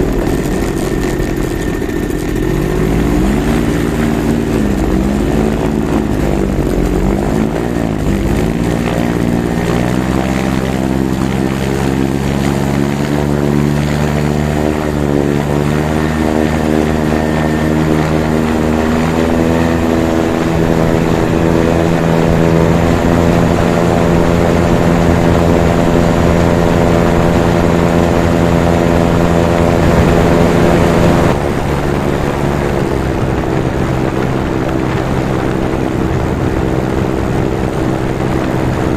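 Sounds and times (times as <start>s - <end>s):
two-stroke engine running: 0.0s - 31.6s.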